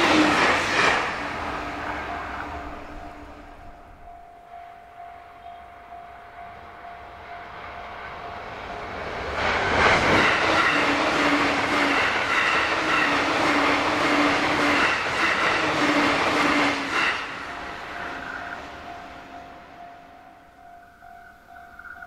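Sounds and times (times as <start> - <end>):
wheels beating on rails: 0.0 - 4.3, 6.4 - 19.8
electric train passing: 0.0 - 22.0.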